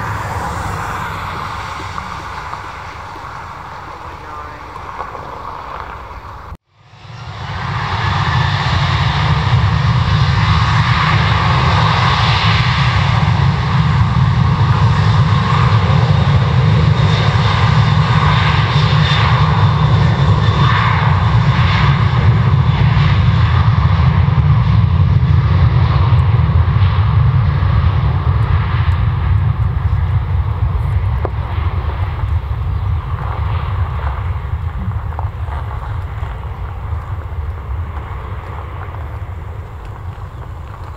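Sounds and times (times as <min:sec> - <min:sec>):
jet engines at takeoff: 0:00.0 - 0:40.9.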